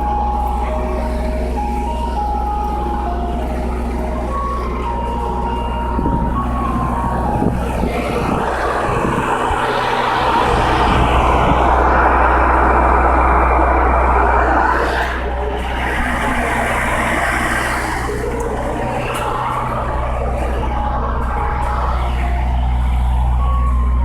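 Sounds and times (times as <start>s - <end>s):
low engine hum: 0.0s - 24.0s
road noise: 0.0s - 24.0s.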